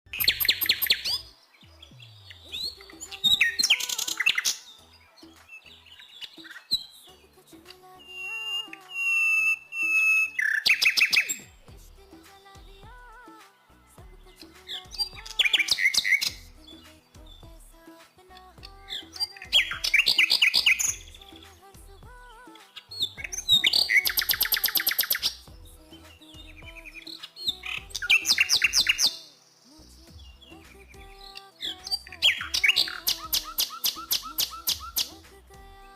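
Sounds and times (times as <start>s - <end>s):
small birds chirping: 0.1s - 13.4s, 14.0s - 35.9s
quiet background music: 0.1s - 35.9s.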